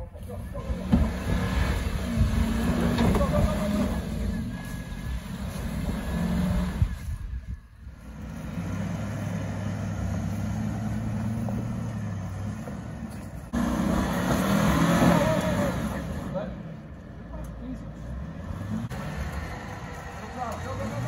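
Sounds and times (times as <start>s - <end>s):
truck engine running at low revs: 0.0s - 21.0s.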